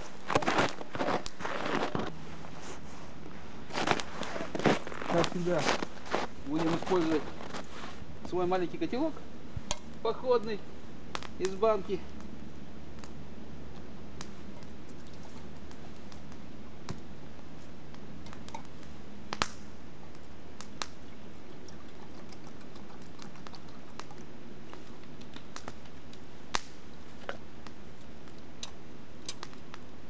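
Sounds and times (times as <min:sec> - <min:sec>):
log fire crackling and popping: 0:00.0 - 0:30.0.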